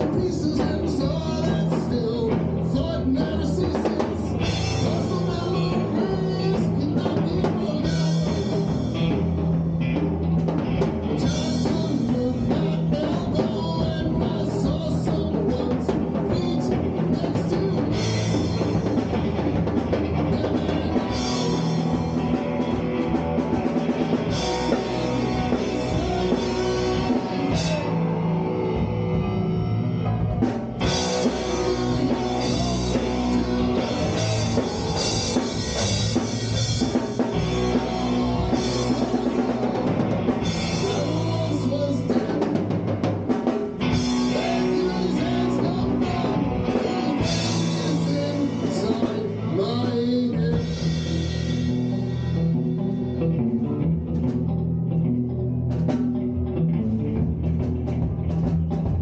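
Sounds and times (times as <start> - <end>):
drum kit: 0.0 - 54.8, 55.6 - 59.0
bass guitar: 0.0 - 59.0
electric guitar: 0.0 - 59.0.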